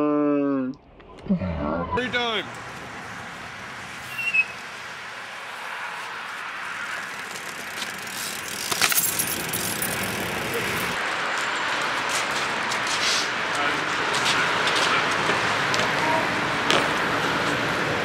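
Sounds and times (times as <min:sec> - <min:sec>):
bike tyres rolling on concrete: 0:02.5 - 0:18.0.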